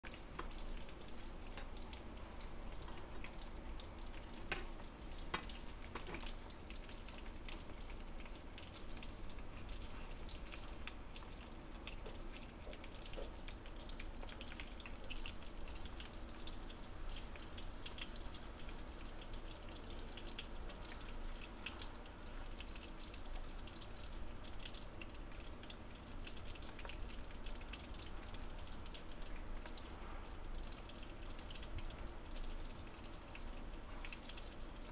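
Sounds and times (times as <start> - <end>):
food sizzling in hot oil: 0.0 - 34.9.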